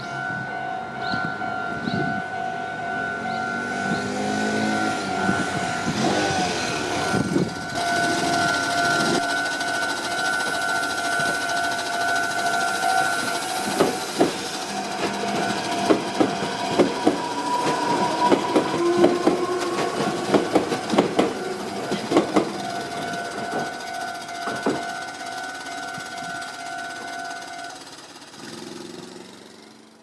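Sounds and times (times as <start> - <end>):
level-crossing warning tone: 0.0 - 28.3
train wheels clacking over rail joints: 3.2 - 29.8.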